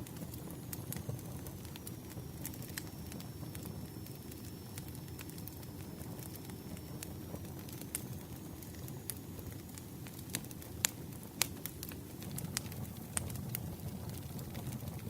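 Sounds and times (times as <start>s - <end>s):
campfire pops and snaps: 0.0s - 15.0s
low rumble of burning: 0.0s - 15.0s.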